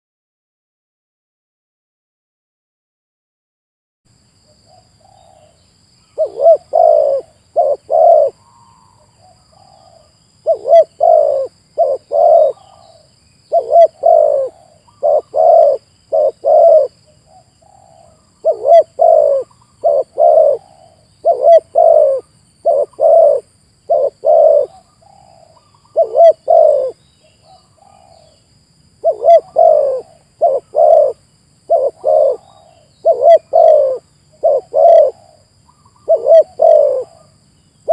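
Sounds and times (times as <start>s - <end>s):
dove cooing: 6.1s - 28.4s, 29.0s - 37.9s.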